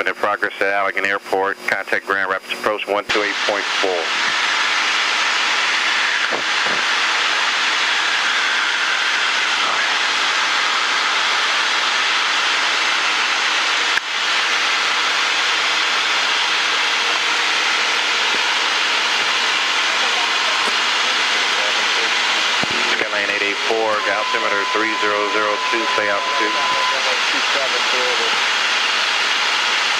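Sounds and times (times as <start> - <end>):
airplane engine and propeller drone: 0.0 - 29.9.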